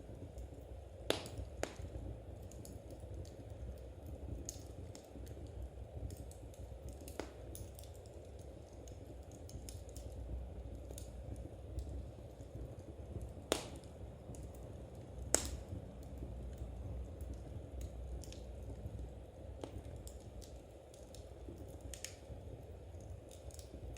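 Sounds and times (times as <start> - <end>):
wood fire crackling: 0.0 - 23.9
sharp pops of fire: 0.2 - 23.9.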